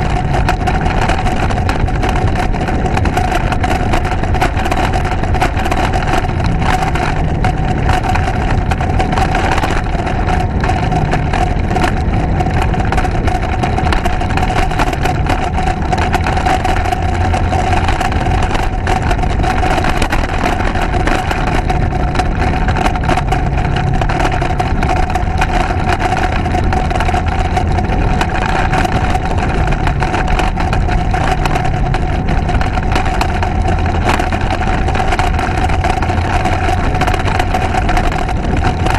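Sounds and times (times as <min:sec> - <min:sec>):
motorcycle engine running: 0:00.0 - 0:38.9
rushing wind noise: 0:00.0 - 0:38.9.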